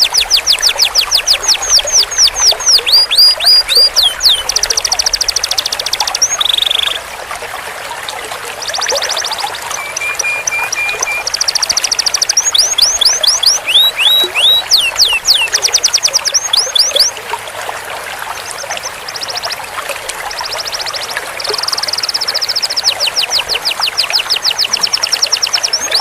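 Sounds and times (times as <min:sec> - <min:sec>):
canary singing trilled song: 0:00.0 - 0:07.0, 0:08.7 - 0:17.1, 0:18.4 - 0:19.6, 0:20.3 - 0:26.0.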